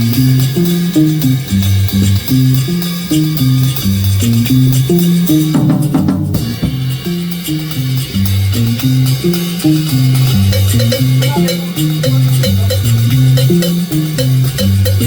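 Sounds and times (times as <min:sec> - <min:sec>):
bass line: 0:00.0 - 0:15.0
drum kit with cymbals: 0:00.0 - 0:15.0.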